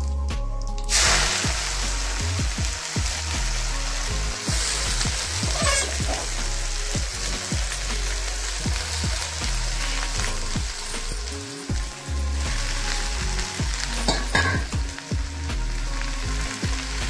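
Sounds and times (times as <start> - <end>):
leaves sizzling in hot oil: 0.8 - 17.0.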